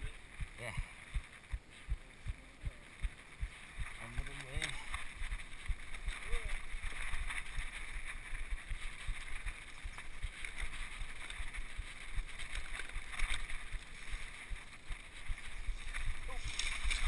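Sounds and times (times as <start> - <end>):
wind rumbling on microphone: 0.0 - 17.0
bike knocking and rattling: 2.7 - 17.0.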